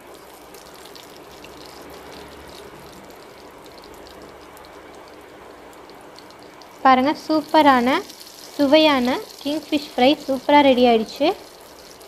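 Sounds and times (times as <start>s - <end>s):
fish sizzling in oil: 0.0s - 12.0s
oil spitting crackle: 0.0s - 12.0s.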